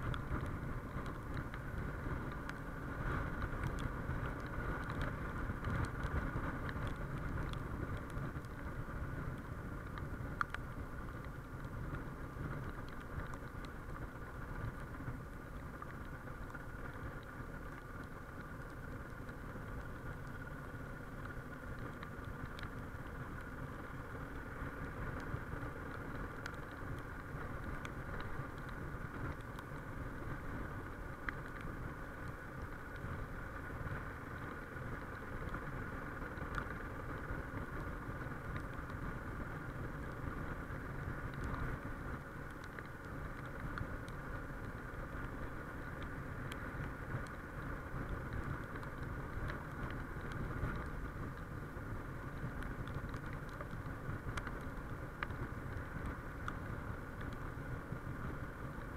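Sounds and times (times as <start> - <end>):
road noise: 0.0 - 58.9
wind noise: 0.0 - 58.9.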